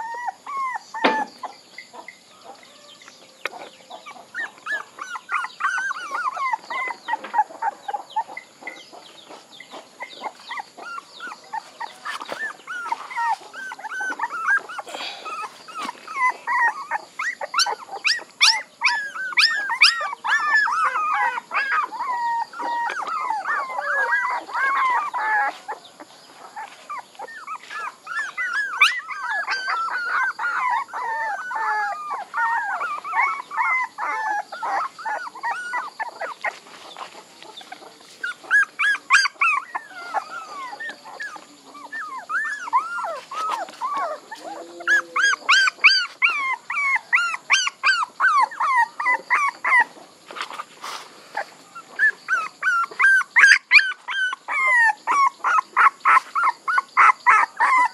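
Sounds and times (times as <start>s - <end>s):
puppies whining and yelping: 0.0s - 57.9s.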